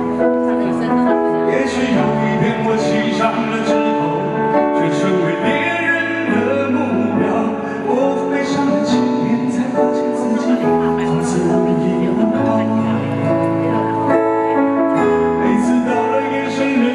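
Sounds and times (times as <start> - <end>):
backing music: 0.0 - 16.9
man singing into microphone: 1.3 - 14.2, 14.9 - 16.9.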